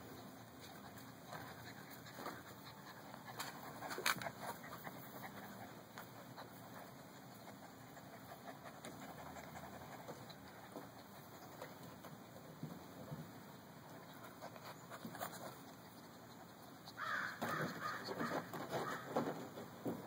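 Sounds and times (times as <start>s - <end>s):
faint low hum: 0.0s - 20.0s
puppies rustling on grass: 0.0s - 20.0s.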